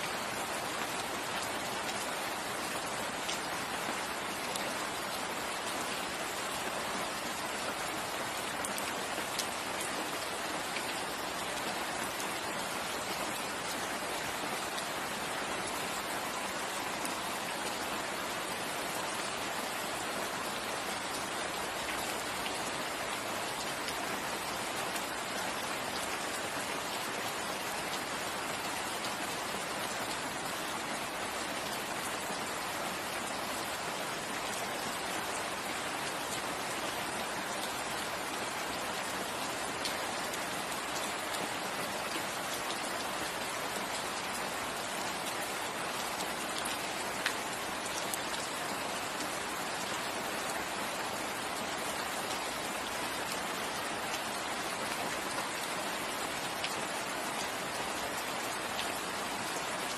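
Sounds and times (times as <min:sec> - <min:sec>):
rain on forest foliage: 0:00.0 - 0:59.9.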